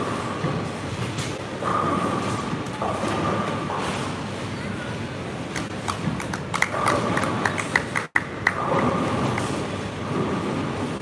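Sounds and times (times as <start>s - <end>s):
rumble of busy bowling centre: 0.0s - 11.0s.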